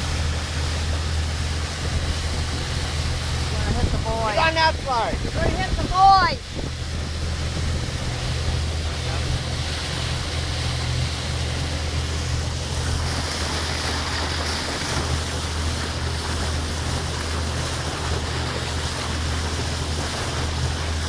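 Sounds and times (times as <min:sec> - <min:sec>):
boat motor droning: 0:00.0 - 0:21.0
rushing water: 0:00.0 - 0:21.0
wind on microphone: 0:00.0 - 0:21.0.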